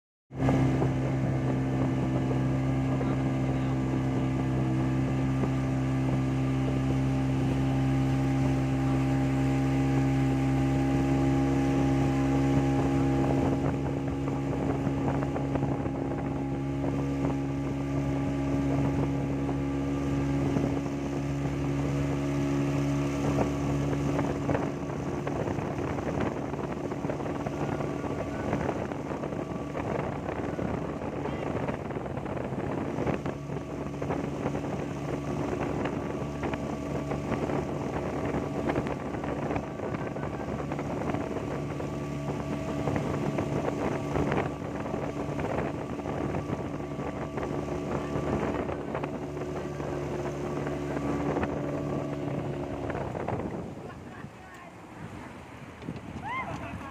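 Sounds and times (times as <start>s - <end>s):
motorboat engine running: 0.3s - 56.9s
wind and water rushing: 0.3s - 56.9s.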